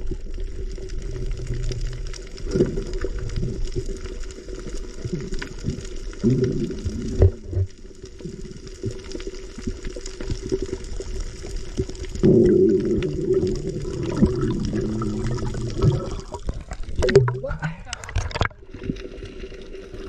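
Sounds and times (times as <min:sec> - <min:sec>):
water sloshing and bubbling: 0:00.0 - 0:20.0.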